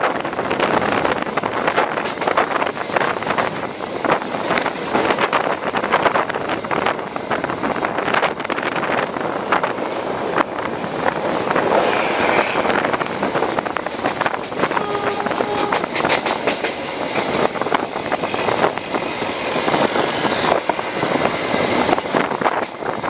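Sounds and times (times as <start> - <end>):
rushing wind and rail noise: 0.0 - 23.0.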